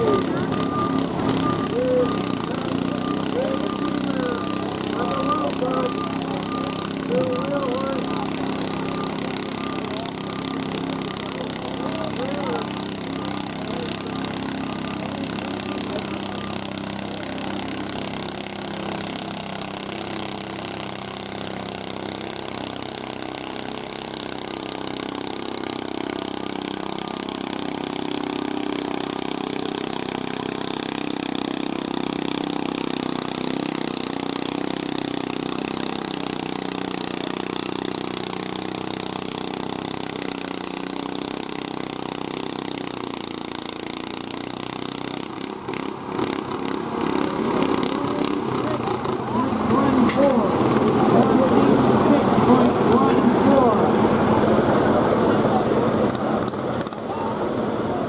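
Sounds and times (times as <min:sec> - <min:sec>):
garden tractor engine running: 0:00.0 - 0:58.0.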